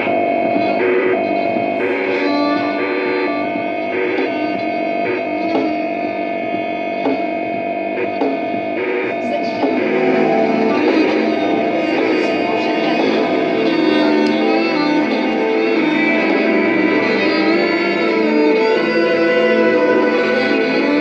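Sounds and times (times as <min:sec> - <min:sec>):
amplified string instrument notes: 0:00.0 - 0:21.0
electronic drones: 0:00.0 - 0:21.0.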